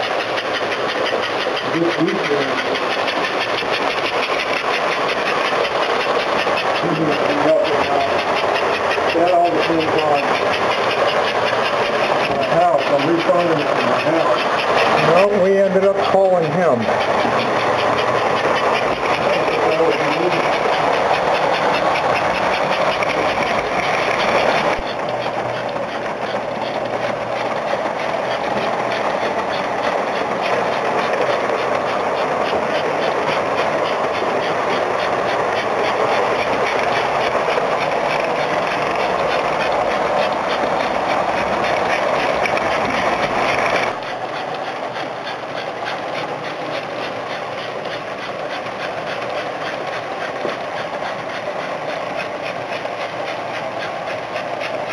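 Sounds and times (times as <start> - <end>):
model train motor whirring: 0.0 - 54.9
wheels rattling on track: 0.0 - 54.9.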